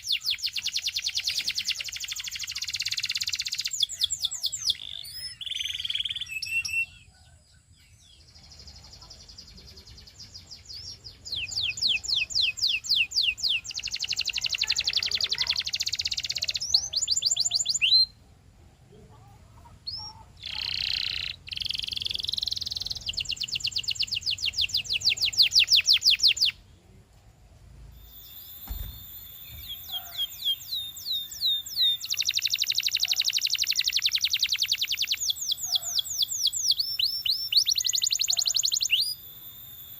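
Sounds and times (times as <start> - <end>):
canary singing trills: 0.0 - 18.2, 18.9 - 26.7, 27.9 - 39.9.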